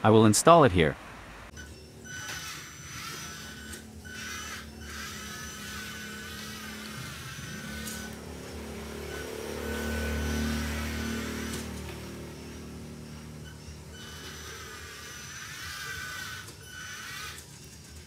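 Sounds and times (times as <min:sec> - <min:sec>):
low running hum: 0:01.0 - 0:18.0
rc truck motor whine: 0:01.5 - 0:18.0.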